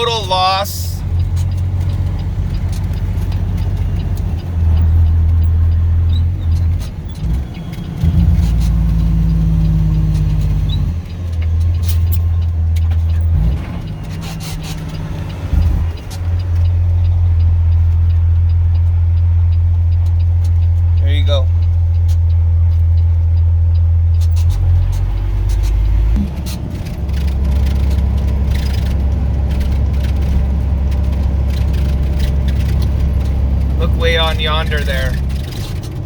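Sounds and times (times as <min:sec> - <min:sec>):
road noise: 0:00.0 - 0:36.0
vehicle engine drone: 0:00.0 - 0:36.0.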